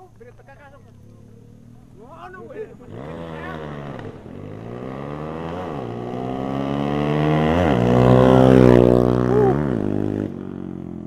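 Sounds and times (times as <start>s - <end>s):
motorcycle engine passing: 0.0s - 11.0s.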